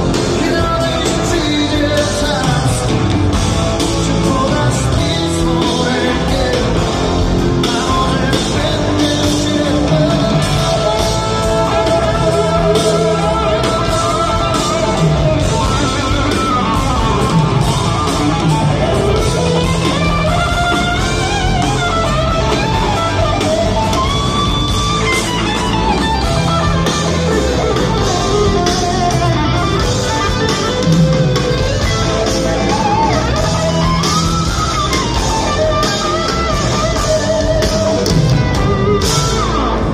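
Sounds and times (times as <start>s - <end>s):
electric guitar lead: 0.0s - 39.9s
live rock band playing: 0.0s - 39.9s.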